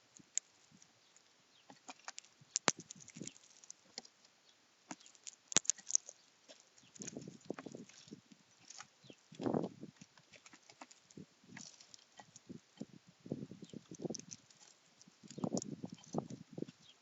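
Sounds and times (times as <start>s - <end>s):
bird pecking and cracking seeds: 0.0s - 12.9s, 13.6s - 17.0s
soft rustle: 0.1s - 12.9s, 13.6s - 17.0s.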